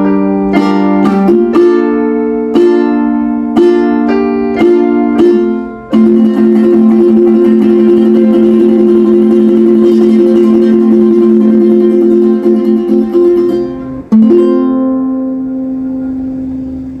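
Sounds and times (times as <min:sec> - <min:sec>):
strummed acoustic string instruments: 0:00.0 - 0:16.2.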